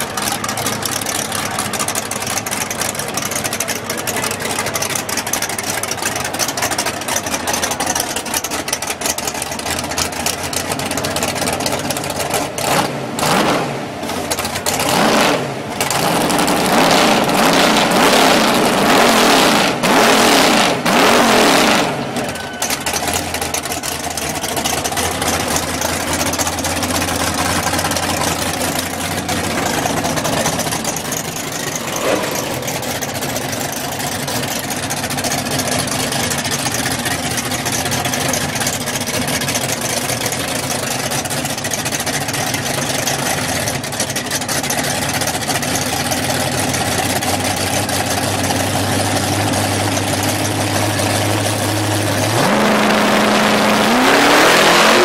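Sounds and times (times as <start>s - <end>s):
car engine idling: 0.0s - 55.0s
track and crowd noise: 0.0s - 55.0s.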